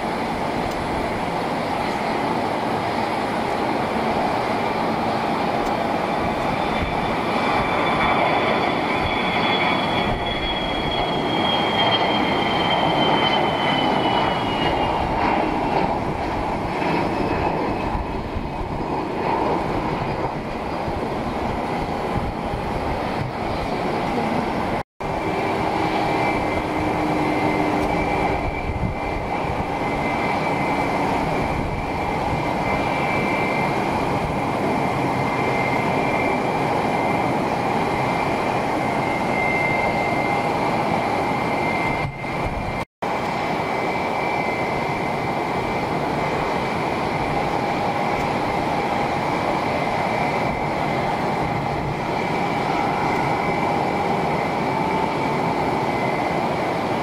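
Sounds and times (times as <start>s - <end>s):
high turbine whine: 0.0s - 57.0s
jet engines running: 0.0s - 57.0s.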